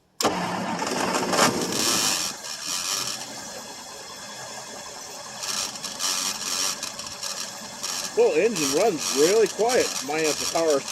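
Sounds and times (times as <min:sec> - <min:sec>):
car engine idling: 0:00.0 - 0:10.9
noisy power steering pump: 0:00.2 - 0:10.9.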